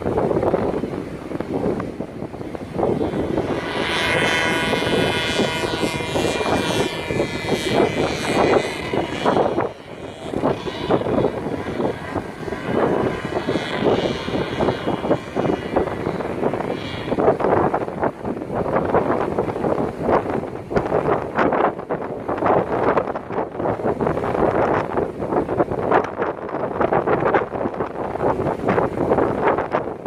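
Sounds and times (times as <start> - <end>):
paramotor engine droning: 0.0 - 30.0
wind buffeting microphone: 0.0 - 30.0.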